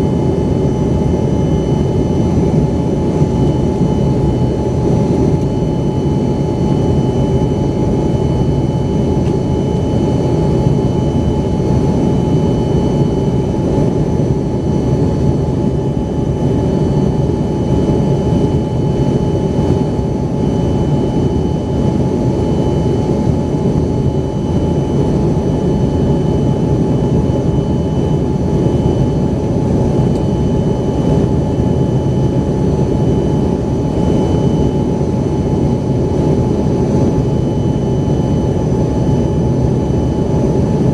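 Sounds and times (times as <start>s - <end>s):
high engine whine: 0.0s - 40.9s
jet engine cabin roar: 0.0s - 40.9s.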